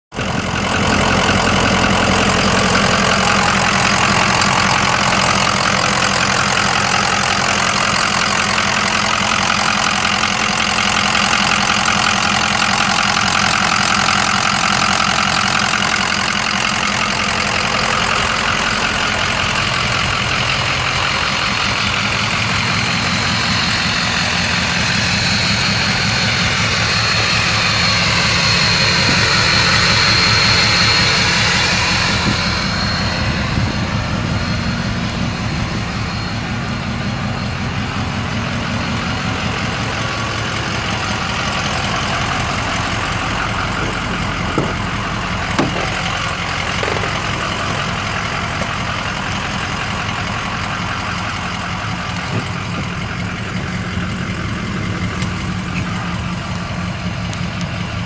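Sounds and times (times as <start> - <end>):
diesel engine idling: 0.1 - 58.0.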